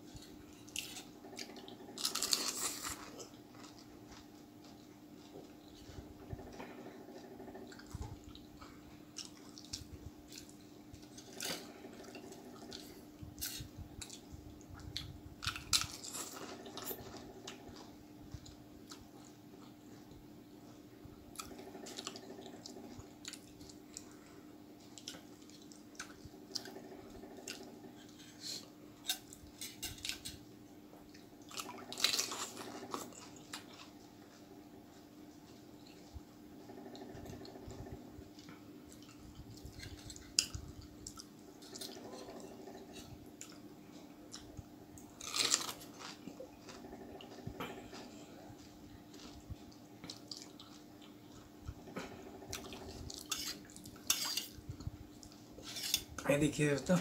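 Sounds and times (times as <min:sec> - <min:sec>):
crunching and chewing: 0:00.0 - 0:57.0
steady low hum: 0:00.0 - 0:57.0.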